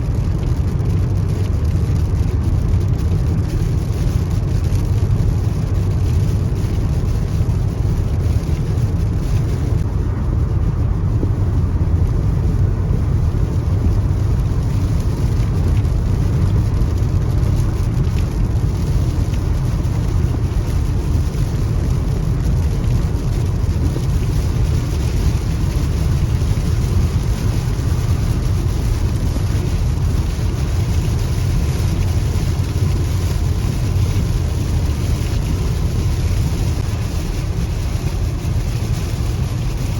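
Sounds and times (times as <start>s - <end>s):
rain and tyre spray hiss: 0.0s - 39.9s
road rumble inside car: 0.0s - 39.9s.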